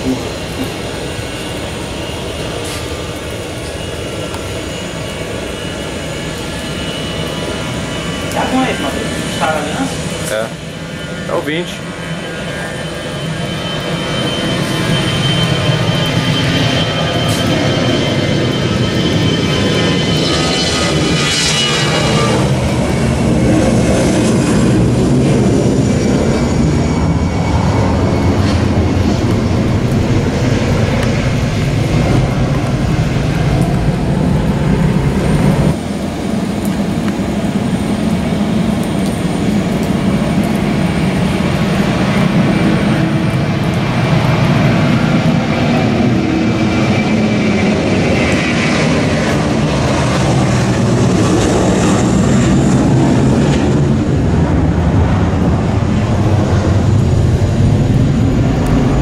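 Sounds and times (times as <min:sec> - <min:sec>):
jet airliner engine noise: 0:00.0 - 0:59.0.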